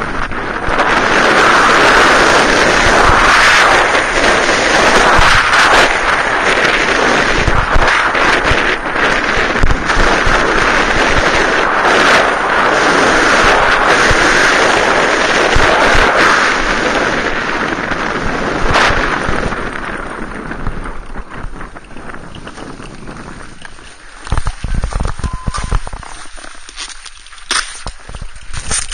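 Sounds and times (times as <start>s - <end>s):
snowboard scraping over snow: 0.0s - 28.9s
wind buffeting microphone: 0.0s - 28.9s.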